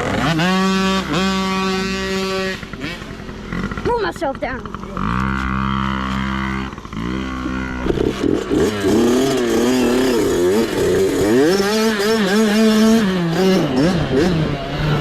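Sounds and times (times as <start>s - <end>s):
mini bike engine revving: 0.0s - 15.0s.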